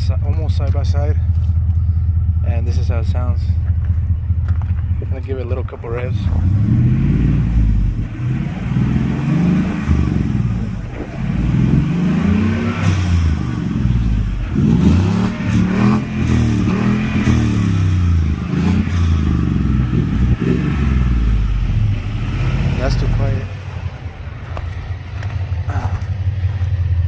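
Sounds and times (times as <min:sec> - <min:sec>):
car engine revving: 0:02.6 - 0:27.0.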